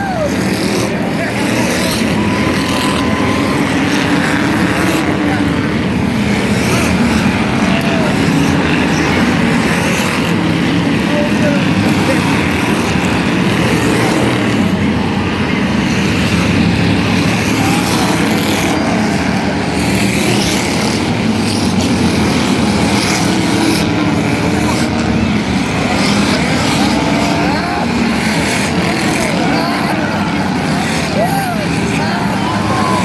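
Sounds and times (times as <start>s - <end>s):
car engines running loud: 0.0s - 33.0s.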